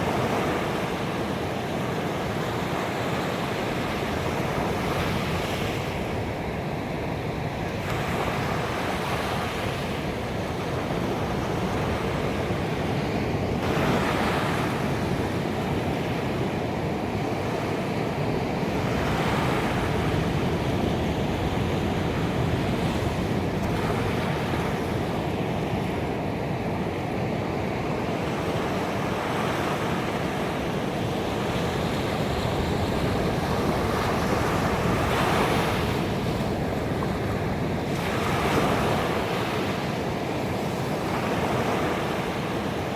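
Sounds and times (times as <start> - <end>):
ocean surf on beach: 0.0 - 42.9.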